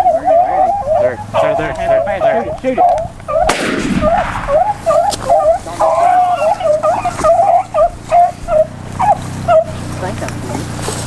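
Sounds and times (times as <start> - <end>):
hounds yelping: 0.0 - 11.0.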